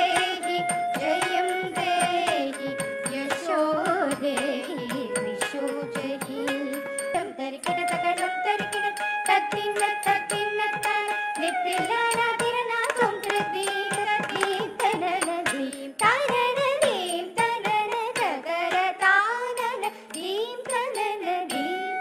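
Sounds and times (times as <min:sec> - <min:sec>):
person singing: 0:00.0 - 0:17.5, 0:18.1 - 0:22.0
hand drum strokes: 0:00.0 - 0:18.8.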